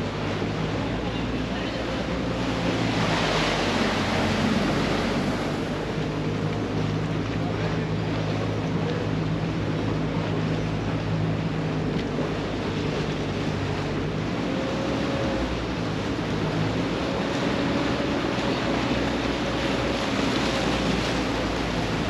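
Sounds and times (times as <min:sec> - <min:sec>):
boat engine droning: 0:00.0 - 0:22.0
water rushing along hull: 0:00.0 - 0:22.0.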